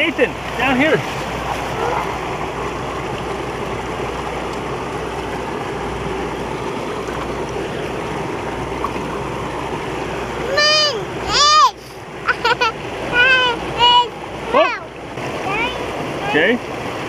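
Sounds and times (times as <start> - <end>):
creek water rushing over rocks: 0.0 - 17.0.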